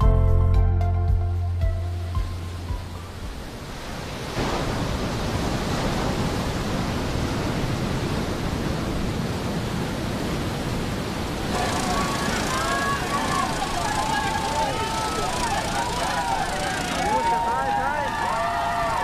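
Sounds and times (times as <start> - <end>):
surf washing on beach: 2.2 - 19.0.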